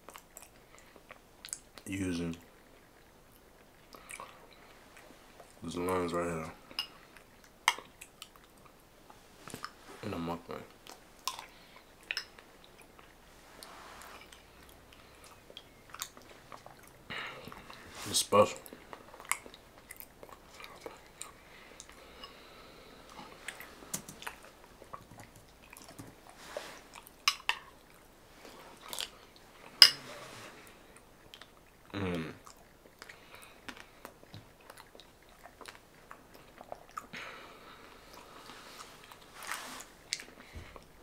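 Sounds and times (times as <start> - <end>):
person chewing soggy food: 0.0 - 41.0.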